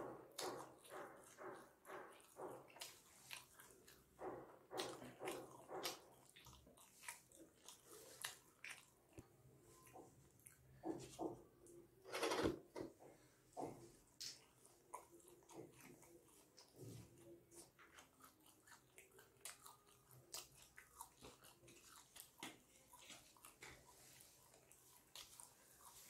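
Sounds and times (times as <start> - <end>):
chewing with mouth clicks: 0.0 - 11.8, 14.1 - 26.0.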